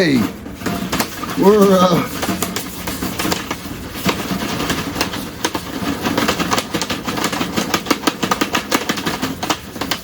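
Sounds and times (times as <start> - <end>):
pan rattling while shaken: 0.0 - 10.0
popcorn popping: 0.0 - 10.0.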